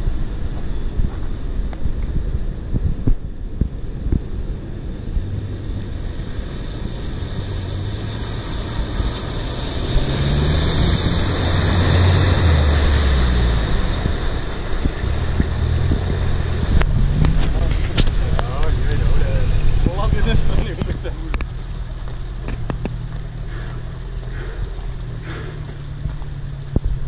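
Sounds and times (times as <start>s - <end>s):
pickup engine running under load: 0.0s - 27.0s
water splashing from wheels: 0.0s - 27.0s
wind noise on microphone: 0.0s - 27.0s.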